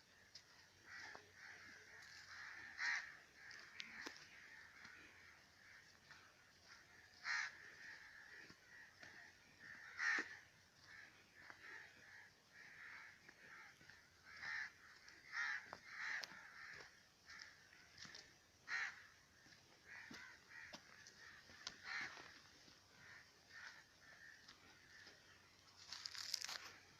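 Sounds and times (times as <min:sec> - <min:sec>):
birds cawing: 0:00.0 - 0:26.9.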